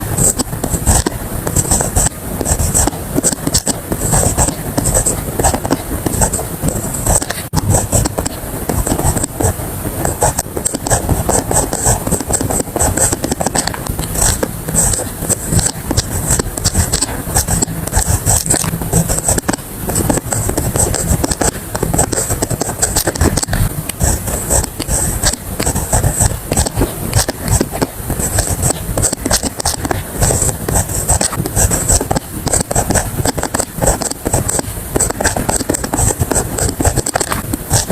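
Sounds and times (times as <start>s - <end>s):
pen scratching on paper: 0.0s - 37.9s.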